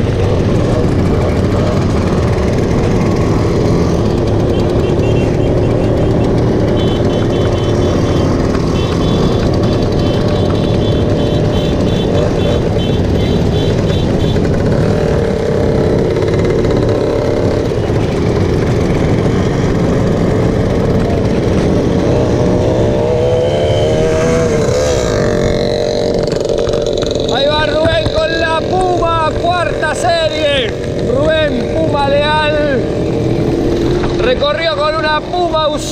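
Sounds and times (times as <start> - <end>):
motorcycle engine revving: 0.0 - 35.9
motorcycle engines running: 0.0 - 35.9.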